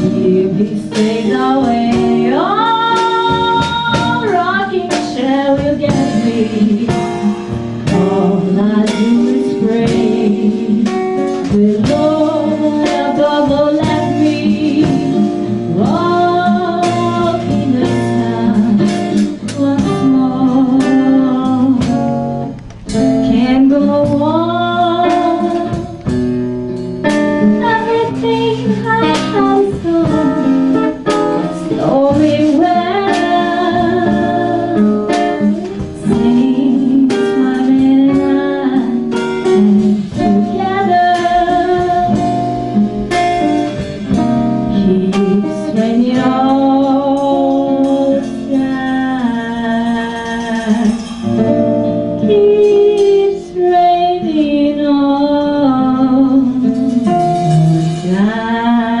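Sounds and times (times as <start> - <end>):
woman singing: 0.0 - 26.2, 27.0 - 59.0
acoustic guitar: 0.0 - 59.0.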